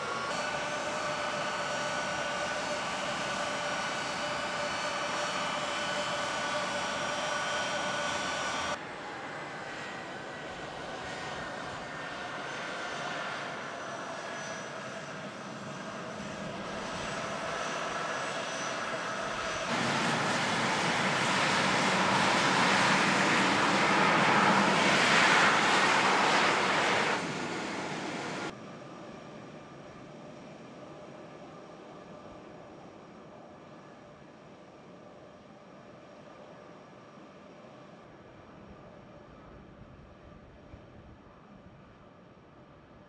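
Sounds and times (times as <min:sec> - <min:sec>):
jet engines whining and roaring: 0:00.0 - 0:41.1.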